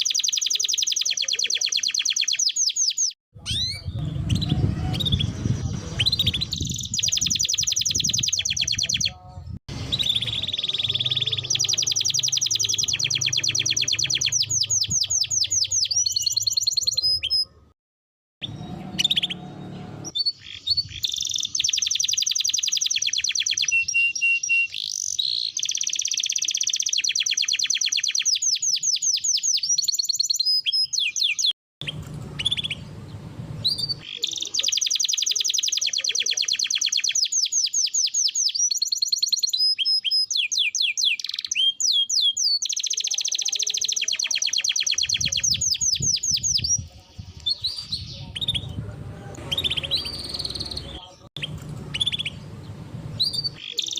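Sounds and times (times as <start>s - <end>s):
canary singing trills: 0.0s - 17.7s, 18.4s - 53.9s.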